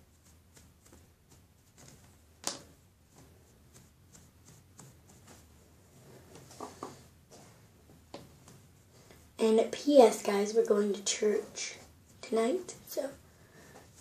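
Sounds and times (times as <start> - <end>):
soft brush strokes: 0.0 - 14.0.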